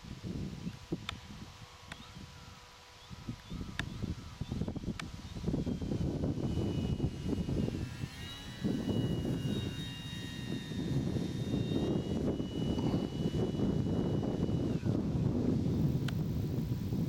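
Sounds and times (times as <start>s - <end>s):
model plane motor whining: 0.0s - 17.0s
wind buffeting microphone: 0.0s - 17.0s.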